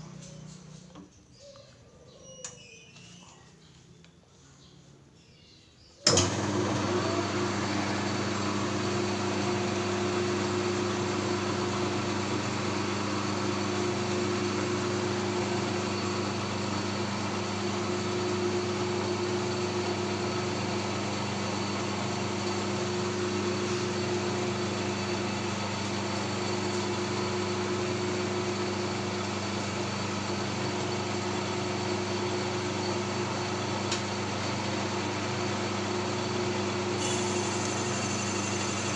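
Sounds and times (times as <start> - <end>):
metal lathe motor hum: 6.1 - 38.9.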